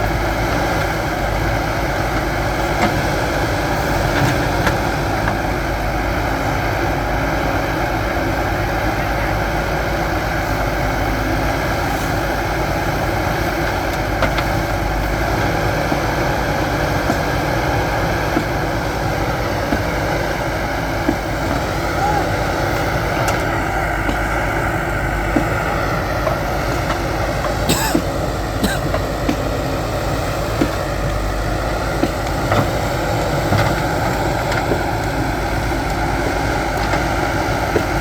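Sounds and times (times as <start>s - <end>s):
heavy machinery engine running: 0.0s - 38.0s.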